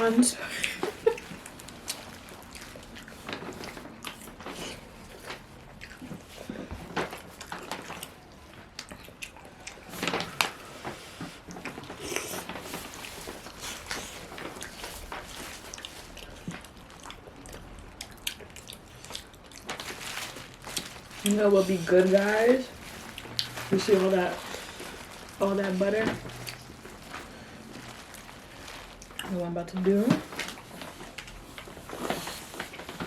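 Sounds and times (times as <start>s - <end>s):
wet chewing: 0.5s - 29.4s.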